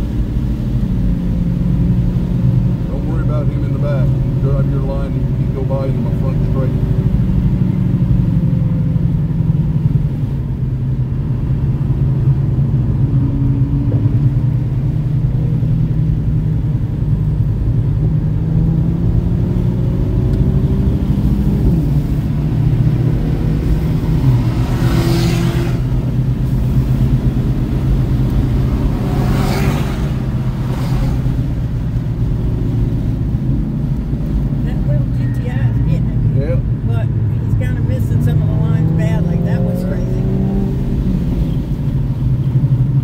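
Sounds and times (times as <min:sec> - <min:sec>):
car engine: 0:00.0 - 0:43.0
road noise: 0:00.0 - 0:43.0.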